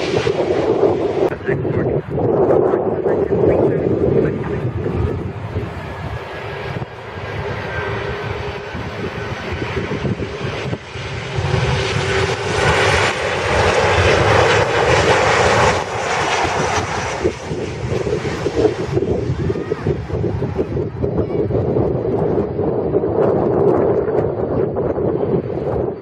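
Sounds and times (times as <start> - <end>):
jet airliner engines passing: 0.0 - 26.0.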